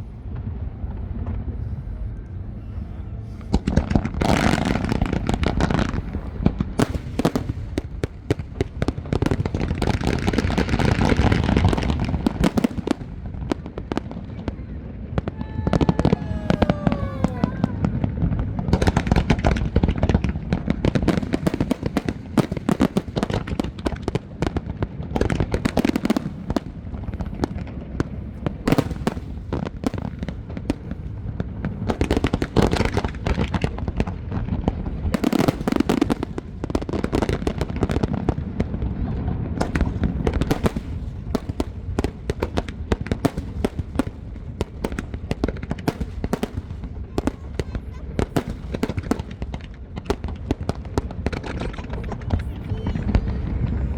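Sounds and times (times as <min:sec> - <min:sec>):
fireworks bursting and crackling: 0:03.2 - 0:53.9.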